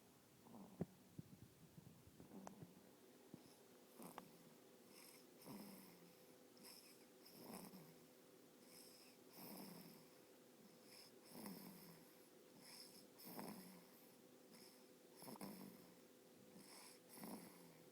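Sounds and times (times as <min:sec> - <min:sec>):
faint hum: 0:00.0 - 0:17.9.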